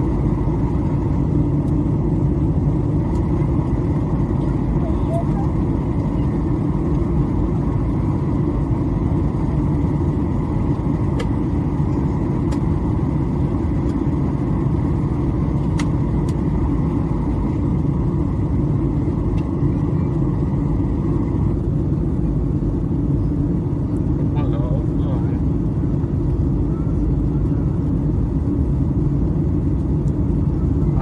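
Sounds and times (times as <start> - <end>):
airplane cabin roar: 0.0 - 31.0
faint steady whine: 0.0 - 31.0.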